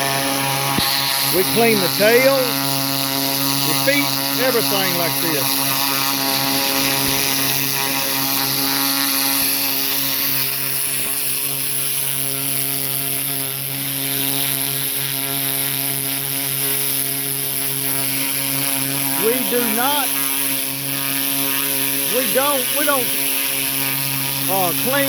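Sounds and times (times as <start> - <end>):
pressure washer motor drone: 0.0 - 25.0.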